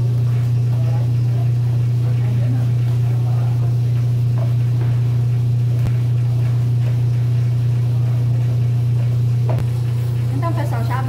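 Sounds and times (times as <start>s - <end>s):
bakery machine hum: 0.0s - 11.0s.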